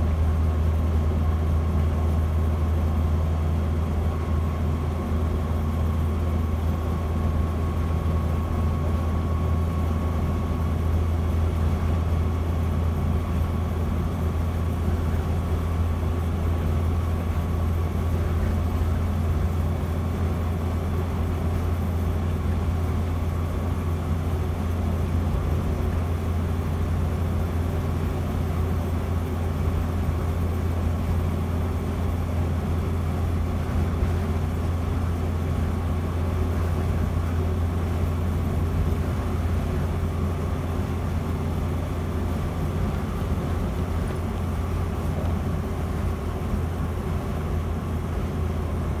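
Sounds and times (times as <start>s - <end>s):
car engine droning at cruise: 0.0s - 49.0s
road noise: 0.0s - 49.0s.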